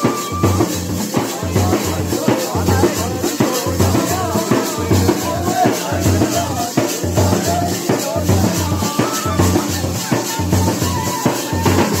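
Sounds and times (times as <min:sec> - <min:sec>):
snare drums played fast: 0:00.0 - 0:12.0.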